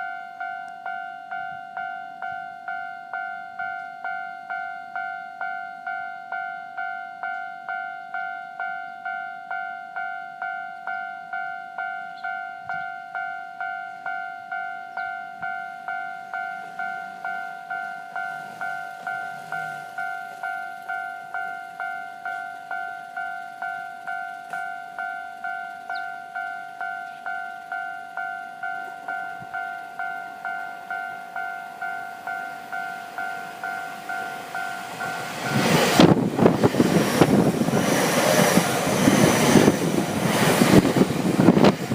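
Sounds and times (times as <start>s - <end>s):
level crossing bell ringing: 0.0s - 36.4s
train passing with rumble: 0.9s - 41.9s.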